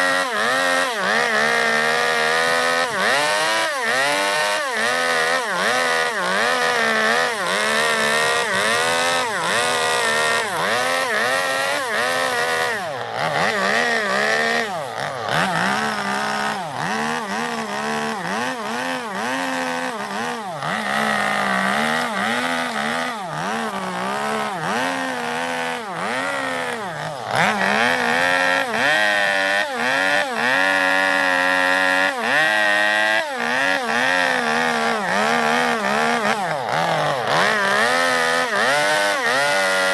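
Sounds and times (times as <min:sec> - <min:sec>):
chainsaw carving wood: 0:00.0 - 0:39.9.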